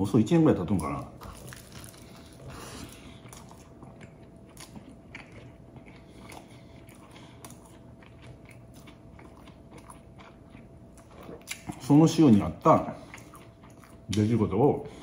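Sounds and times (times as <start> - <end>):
chewing crusty bread: 0.4 - 15.0.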